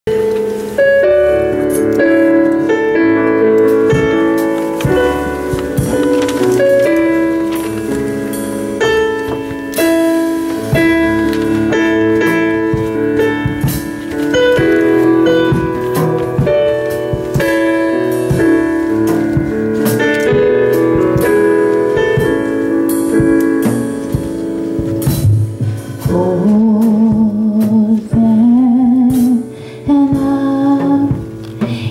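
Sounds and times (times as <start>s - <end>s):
keyboard playing held chords: 0.0s - 31.9s.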